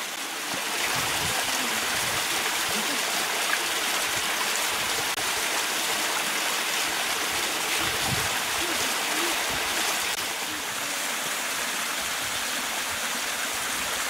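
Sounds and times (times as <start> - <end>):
small waterfall splashing: 0.0 - 14.0.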